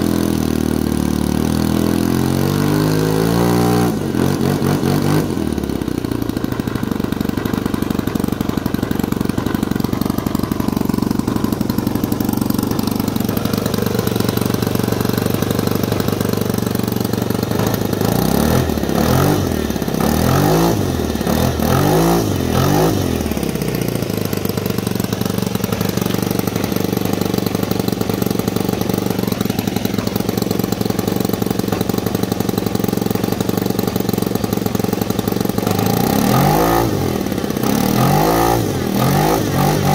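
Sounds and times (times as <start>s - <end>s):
model airplane engine running: 5.4s - 37.8s.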